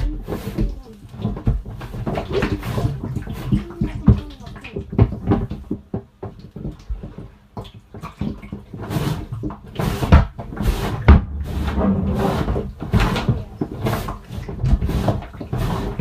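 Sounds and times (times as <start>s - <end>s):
muffled knocks and bumps: 0.0s - 16.0s
water sloshing: 0.0s - 16.0s.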